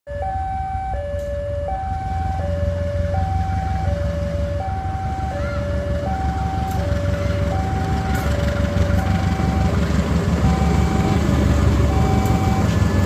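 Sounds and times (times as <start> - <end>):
diesel train rumble: 0.1 - 13.0
two-tone electronic warning alarm: 0.1 - 13.0.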